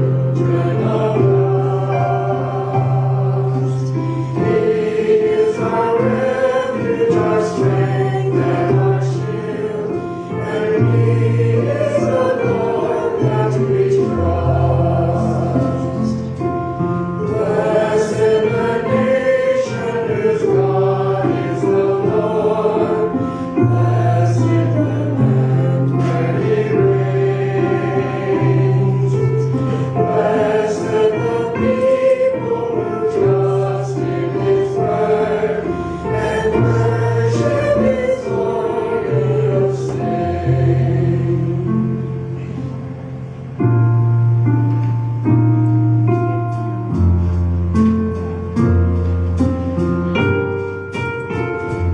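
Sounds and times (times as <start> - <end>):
choir singing gospel song: 0.0 - 42.8
instrumental accompaniment: 0.0 - 51.9.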